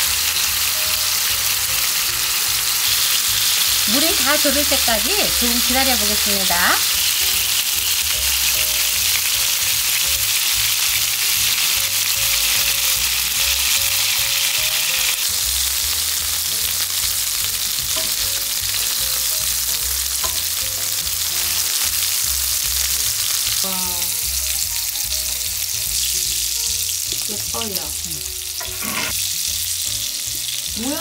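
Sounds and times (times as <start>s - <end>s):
patties sizzling in a frying pan: 0.0s - 31.0s.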